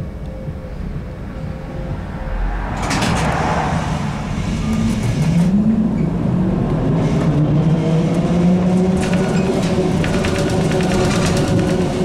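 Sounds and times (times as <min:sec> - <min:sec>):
trolleybus motor humming: 0:00.0 - 0:12.0.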